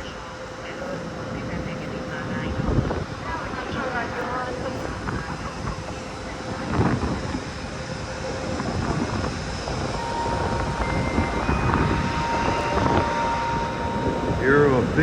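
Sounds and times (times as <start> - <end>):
faint locomotive hum: 0.0 - 15.0
train rumble: 0.0 - 15.0.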